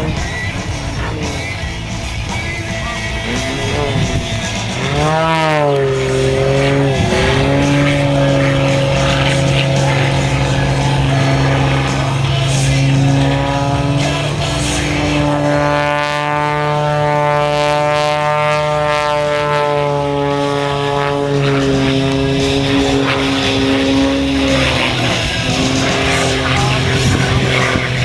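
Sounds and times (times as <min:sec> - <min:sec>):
constant low hum: 0:00.0 - 0:28.0
propeller airplane engine drone: 0:00.0 - 0:28.0.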